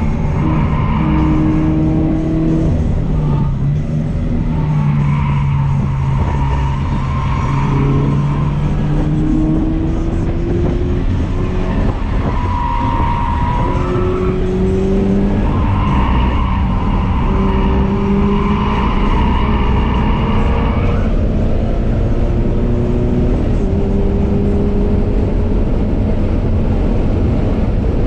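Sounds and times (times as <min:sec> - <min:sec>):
car engine revving in cabin: 0:00.0 - 0:28.0.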